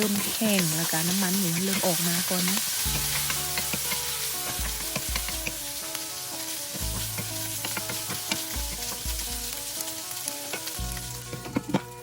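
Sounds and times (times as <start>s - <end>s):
fat popping and crackling: 0.0s - 5.8s, 6.8s - 12.0s
pork sizzling in a pan: 0.0s - 12.0s.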